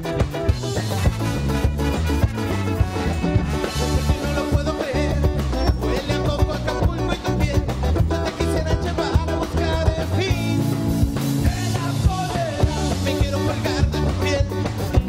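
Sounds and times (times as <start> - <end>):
ska band playing: 0.0 - 15.0.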